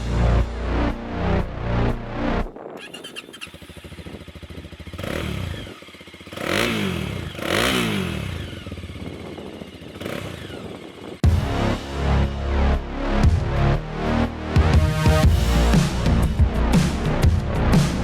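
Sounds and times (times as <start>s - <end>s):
motorcycle engine idling and revving: 0.0s - 13.8s, 14.5s - 18.0s.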